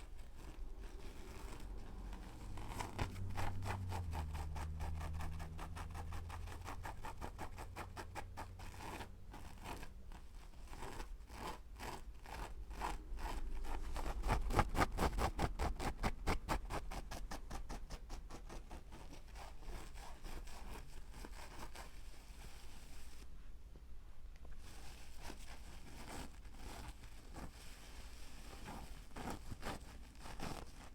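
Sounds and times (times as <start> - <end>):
rapid scratching strokes: 0.0 - 23.3, 24.6 - 30.9.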